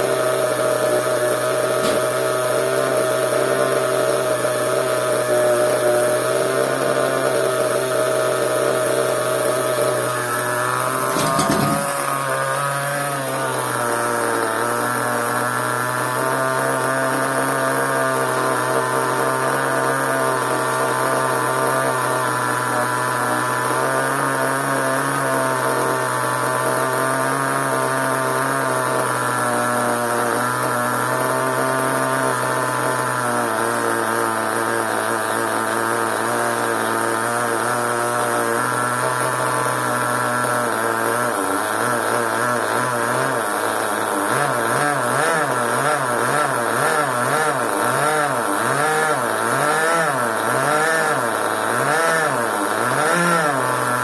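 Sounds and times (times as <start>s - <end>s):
small glow engine running: 0.0s - 54.0s.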